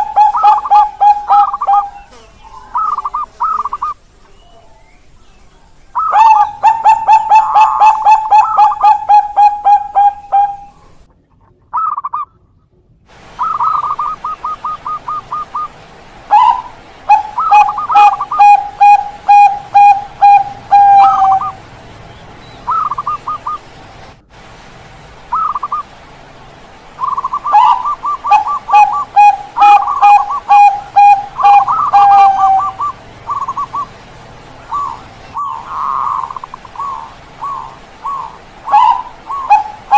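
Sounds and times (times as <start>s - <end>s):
dove cooing: 0.0s - 4.8s, 6.0s - 11.0s, 13.3s - 23.8s, 25.3s - 25.9s, 27.0s - 39.9s.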